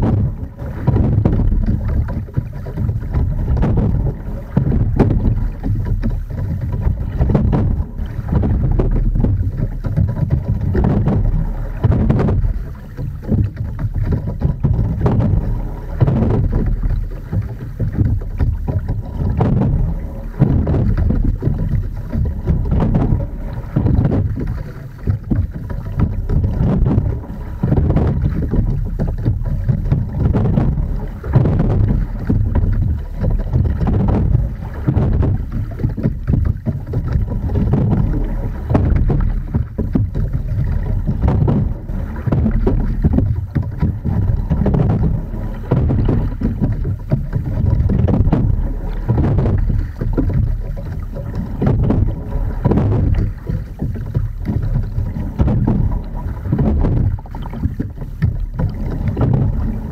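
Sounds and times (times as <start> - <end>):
knocks of rowing boat: 0.0 - 59.9
water rushing along hull: 0.0 - 59.9
wind buffeting microphone: 0.0 - 59.9.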